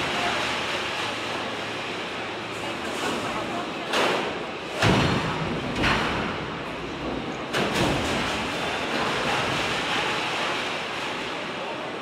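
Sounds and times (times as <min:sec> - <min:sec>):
stamping press machinery noise: 0:00.0 - 0:12.0.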